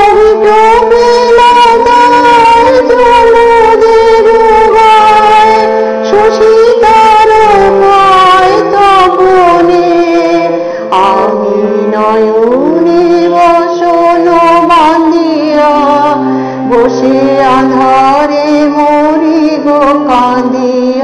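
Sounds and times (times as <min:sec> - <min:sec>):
devotional song melody: 0:00.0 - 0:21.0.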